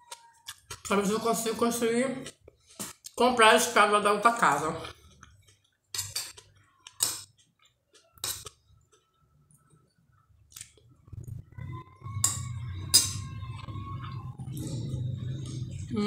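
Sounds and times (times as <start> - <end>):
person chewing food: 0.0 - 0.9, 2.2 - 3.2, 4.8 - 15.9.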